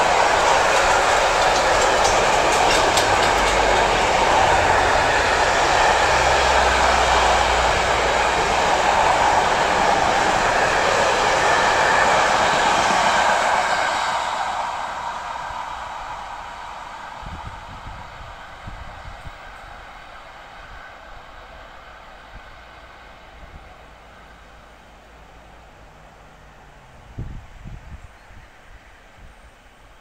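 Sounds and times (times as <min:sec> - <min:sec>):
wheels rushing on track: 0:00.0 - 0:29.8.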